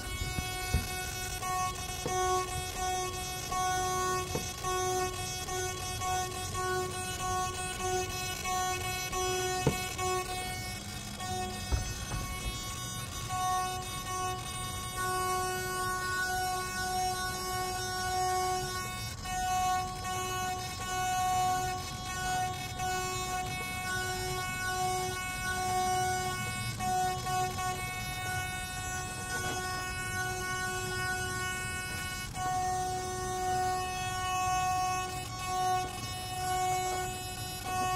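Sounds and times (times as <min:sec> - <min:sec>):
servo whining: 0:00.0 - 0:37.9.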